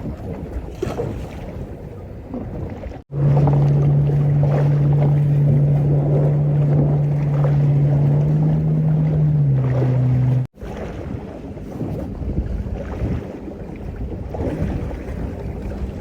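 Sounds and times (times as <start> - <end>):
rushing wind: 0.0 - 16.0
water noise: 0.0 - 16.0
outboard motor humming: 1.0 - 16.0.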